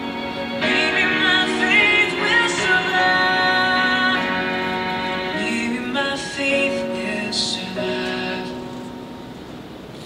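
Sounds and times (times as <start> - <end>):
sung ballad chord: 0.0 - 9.8.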